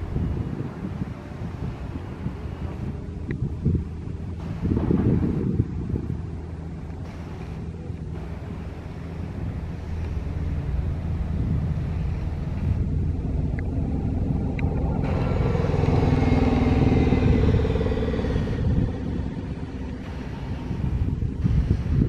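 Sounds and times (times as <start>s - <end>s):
bus driving past: 4.0s - 21.6s.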